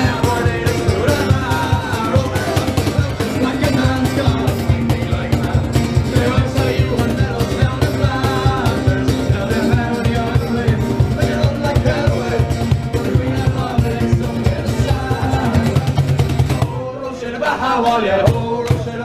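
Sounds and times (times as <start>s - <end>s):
music with fast beat: 0.0s - 16.9s.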